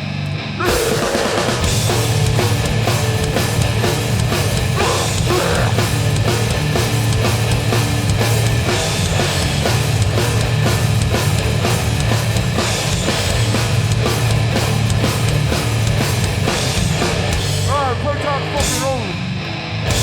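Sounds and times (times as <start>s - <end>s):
distorted guitar and bass riff: 0.0s - 20.0s
drums and cymbals: 0.6s - 20.0s.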